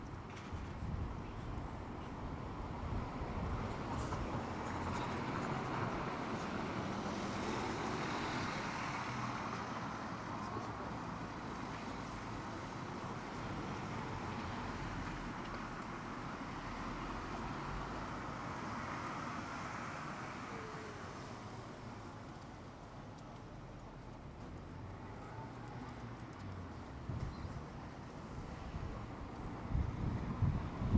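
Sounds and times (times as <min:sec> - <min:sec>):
road traffic noise: 0:00.0 - 0:30.9.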